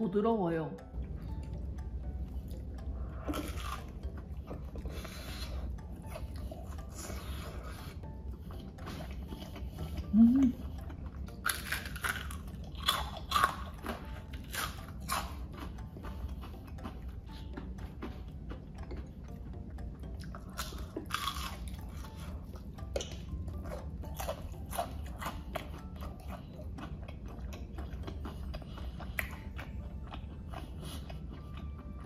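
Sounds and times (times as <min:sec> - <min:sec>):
chewing: 0:01.0 - 0:32.0.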